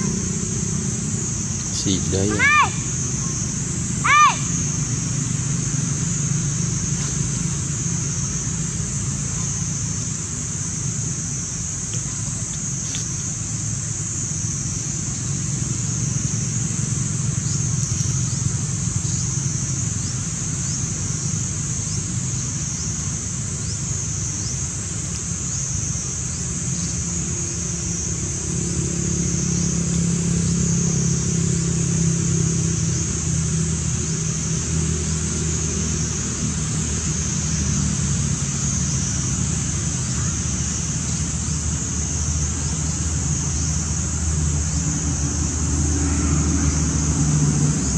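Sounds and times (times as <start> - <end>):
insect chorus pulsing: 0.0 - 47.9
low rumble of traffic: 0.0 - 47.9.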